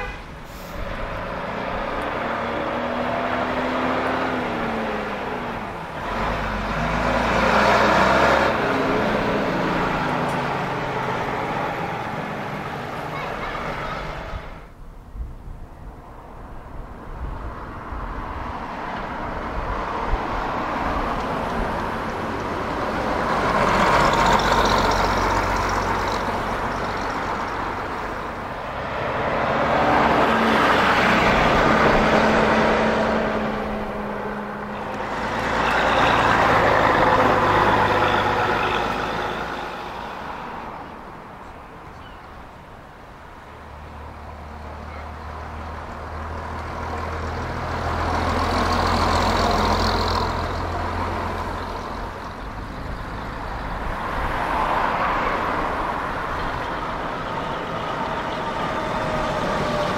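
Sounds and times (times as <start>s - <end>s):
bus engines running: 0.0s - 59.9s.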